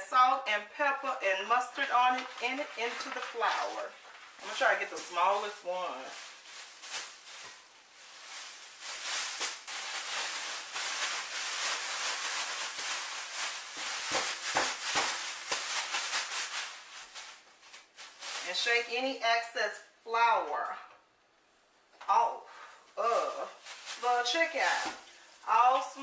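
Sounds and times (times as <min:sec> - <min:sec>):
plastic bag rustling: 0:01.5 - 0:19.2, 0:22.6 - 0:26.0.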